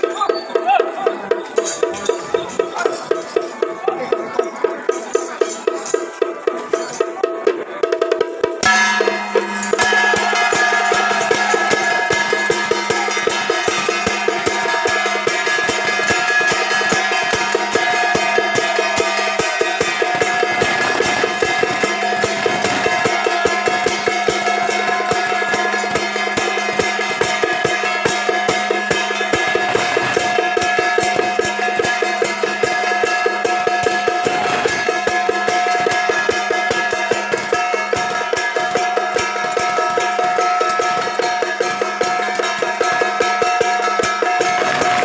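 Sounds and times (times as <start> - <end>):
percussion beating fast rhythm: 0.0 - 45.0.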